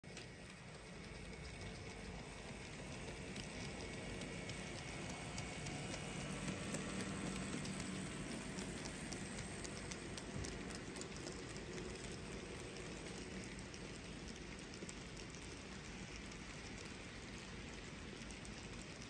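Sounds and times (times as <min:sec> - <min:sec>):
model train wheels clicking on rails: 0:00.0 - 0:19.0.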